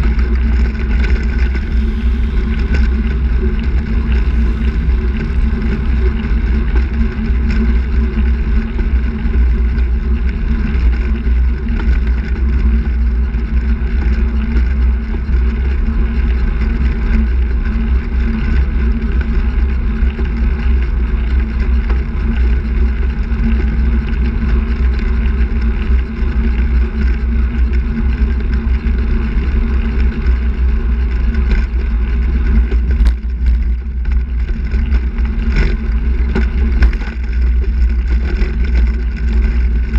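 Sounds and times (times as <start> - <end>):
tyre and road noise: 0.0 - 39.9
wind noise on microphone: 0.0 - 39.9.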